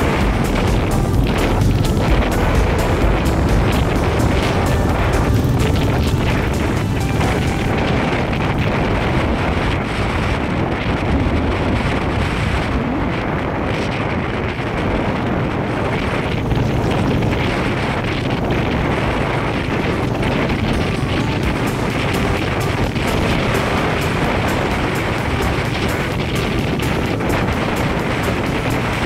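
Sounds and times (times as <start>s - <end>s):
motorcycle engine: 0.0s - 12.7s, 13.9s - 29.0s
road noise: 0.0s - 29.0s
wind buffeting microphone: 0.0s - 29.0s.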